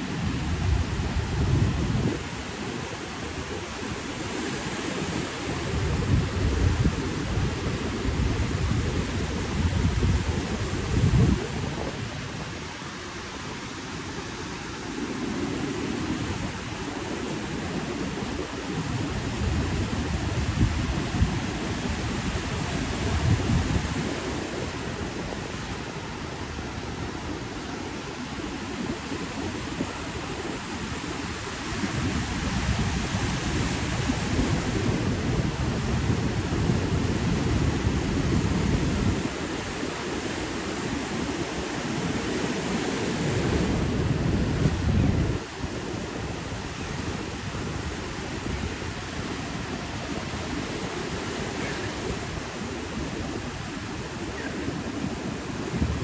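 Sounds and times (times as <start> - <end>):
ocean surf washing: 0.0 - 56.0
wind buffeting microphone: 0.0 - 56.0.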